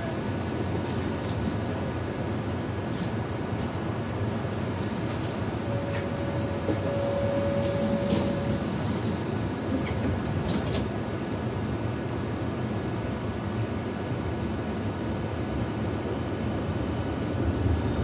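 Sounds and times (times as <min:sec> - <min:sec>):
tram equipment hum: 0:00.0 - 0:18.0.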